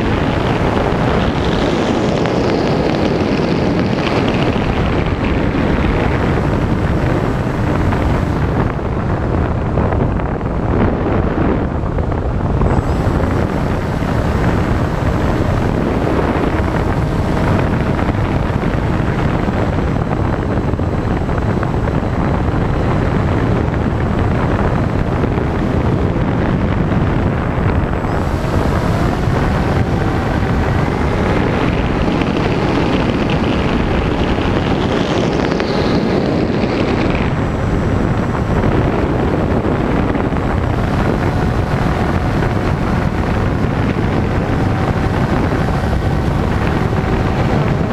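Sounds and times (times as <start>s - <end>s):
faint whine: 0.0s - 47.9s
wind rushing on microphone: 0.0s - 47.9s.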